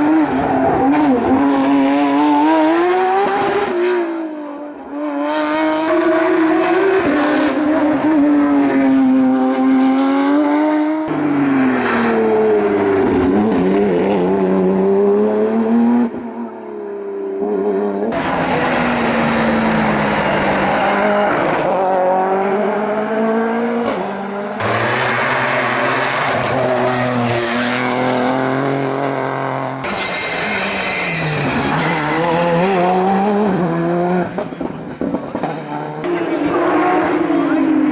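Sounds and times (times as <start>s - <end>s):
race car engines at full throttle: 0.0s - 37.9s.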